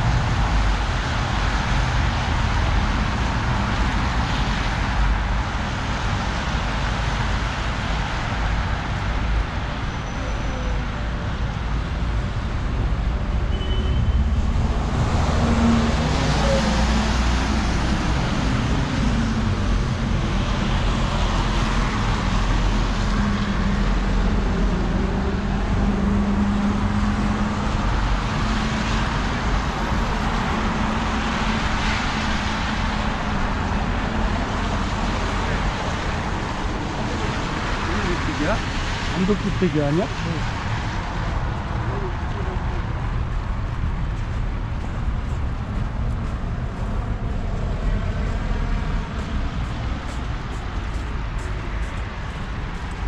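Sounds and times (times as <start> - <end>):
cars on a wet road: 0.0 - 53.0.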